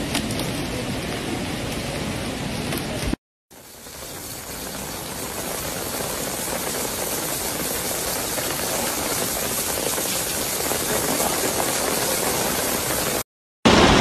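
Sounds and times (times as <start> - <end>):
heavy rain hissing: 0.1 - 14.0.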